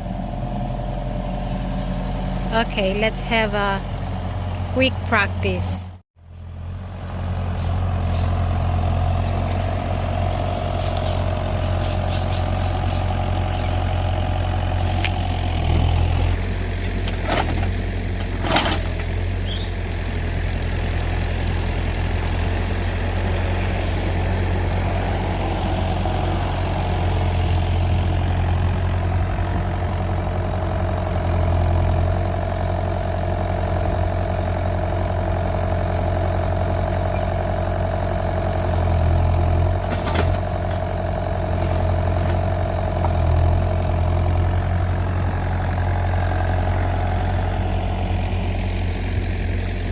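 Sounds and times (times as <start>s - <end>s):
excavator diesel engine running: 0.0s - 49.9s
higher tone over engine hum: 0.0s - 49.9s.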